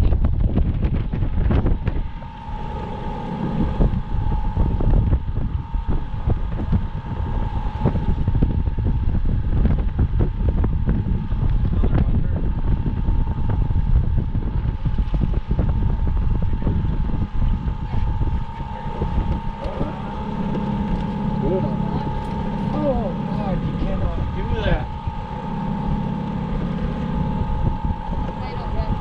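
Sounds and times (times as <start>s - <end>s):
outboard motor running: 0.0s - 29.0s
thin steady whine: 0.0s - 29.0s
wind buffeting microphone: 0.0s - 29.0s.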